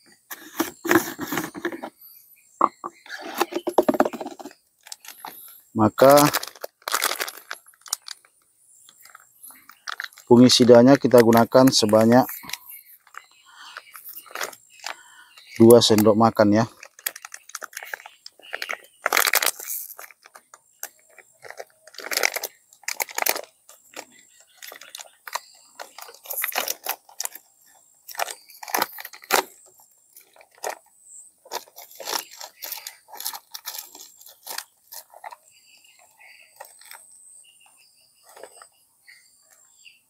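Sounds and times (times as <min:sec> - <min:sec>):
packet crinkling and crunching: 0:03.4 - 0:08.3, 0:09.0 - 0:35.4, 0:36.6 - 0:37.0, 0:38.2 - 0:38.7.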